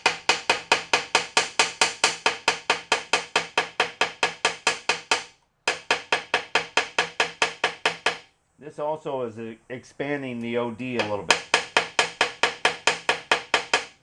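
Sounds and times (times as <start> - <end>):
hammer tapping on a metal ring: 0.0 - 8.2, 10.9 - 14.0.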